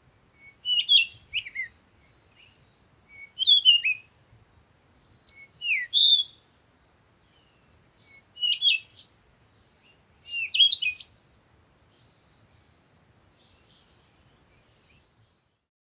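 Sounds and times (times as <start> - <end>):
songbird singing: 0.0 - 15.7
distant bird chirps: 0.3 - 15.5.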